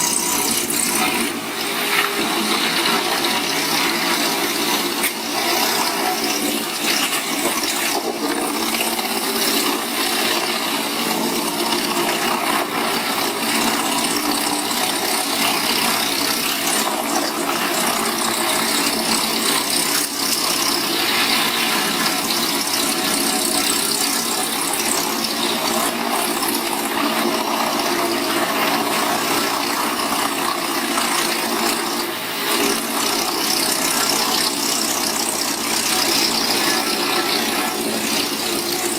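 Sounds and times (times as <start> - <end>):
wood chipper running: 0.0 - 38.9.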